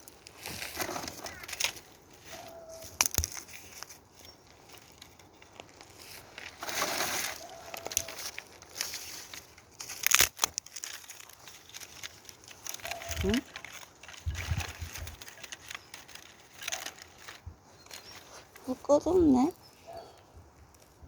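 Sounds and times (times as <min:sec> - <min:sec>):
twigs snapping: 0:00.0 - 0:18.7
twigs crunching and rustling: 0:00.0 - 0:21.0.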